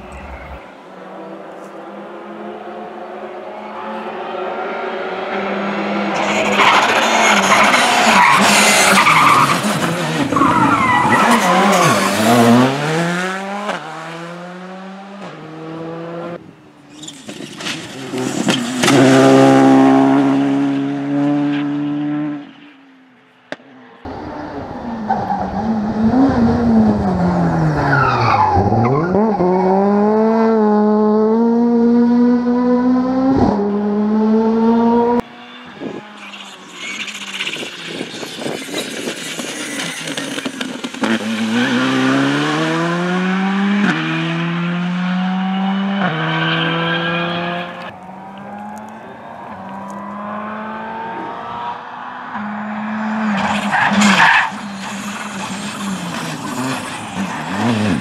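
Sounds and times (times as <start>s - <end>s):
rally car engines revving: 0.0s - 22.6s, 23.5s - 58.0s
tyres skidding: 0.0s - 31.1s, 33.4s - 58.0s.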